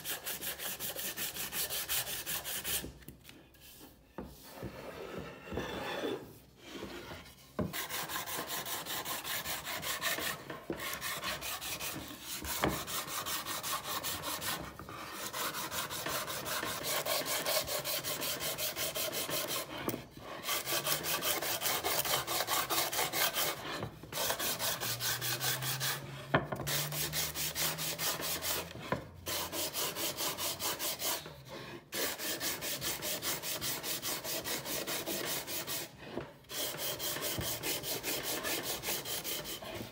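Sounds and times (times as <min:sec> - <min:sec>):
sandpaper rubbing on wood: 0:00.0 - 0:02.8, 0:07.8 - 0:19.7, 0:20.4 - 0:26.0, 0:26.7 - 0:28.7, 0:29.3 - 0:31.2, 0:31.9 - 0:39.9.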